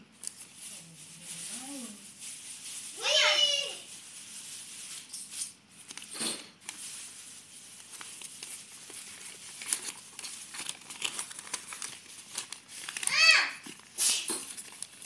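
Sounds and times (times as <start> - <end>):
paper rustling and crinkling: 0.2 - 15.0.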